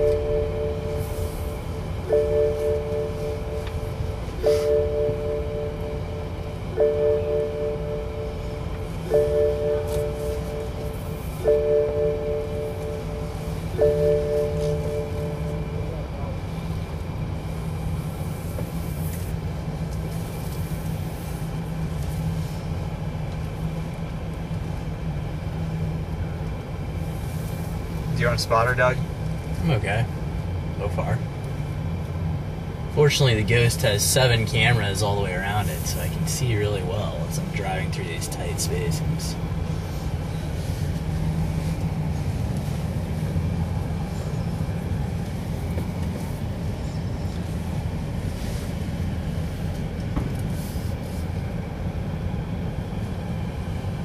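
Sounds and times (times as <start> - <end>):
car cabin hum: 0.0 - 54.0.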